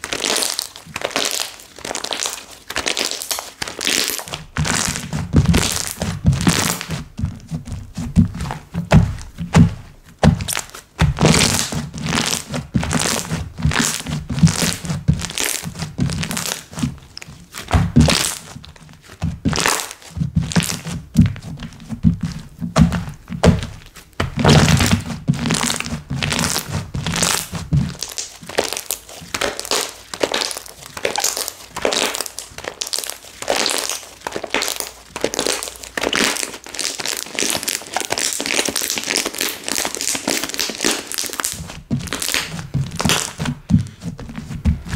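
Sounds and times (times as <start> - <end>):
slime squishing pops: 0.2 - 44.9.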